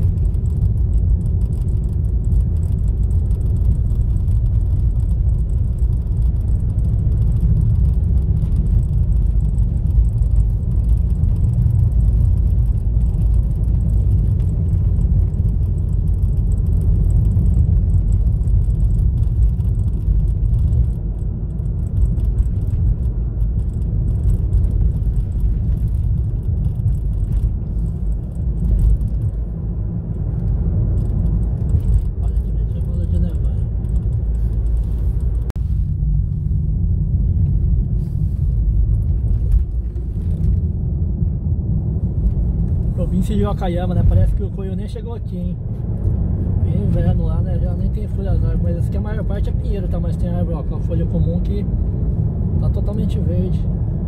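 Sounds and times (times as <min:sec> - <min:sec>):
car driving heard from cabin: 0:00.0 - 0:54.0.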